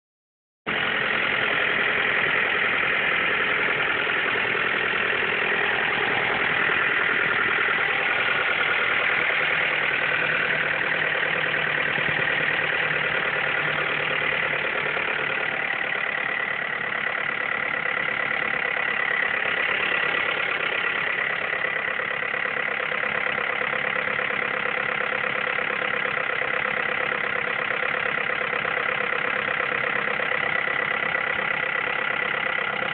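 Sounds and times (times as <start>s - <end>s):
car engine idling: 0.7s - 32.9s.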